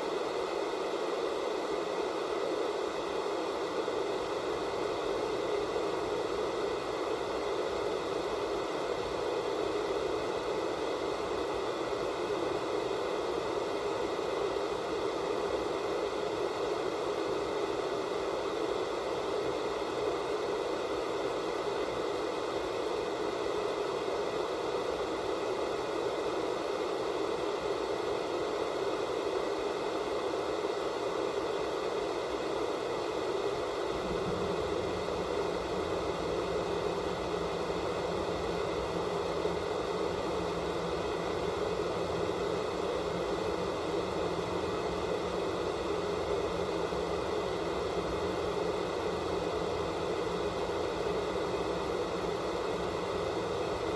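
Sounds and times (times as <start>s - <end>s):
tv static hiss: 0.0s - 53.9s.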